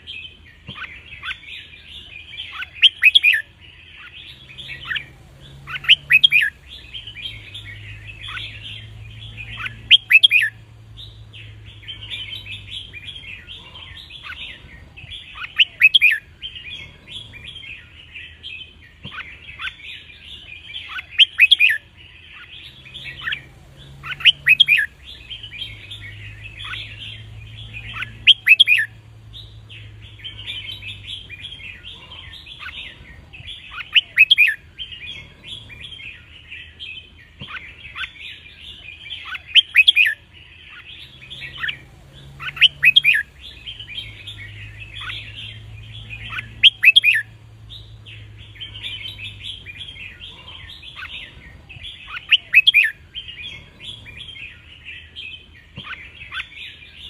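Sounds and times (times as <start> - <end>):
bulbuls singing: 0.0 - 57.0.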